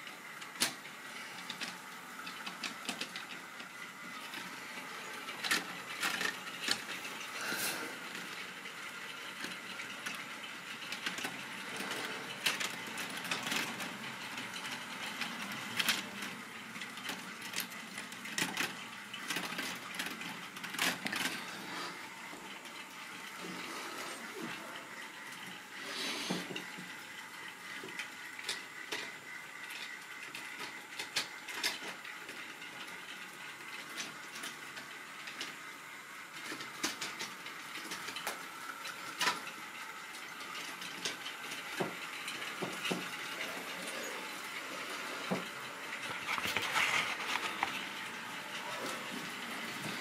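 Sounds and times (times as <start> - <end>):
plastic wagons clicking and clattering: 0.0 - 25.6, 26.3 - 50.0
model train whirring: 0.0 - 50.0.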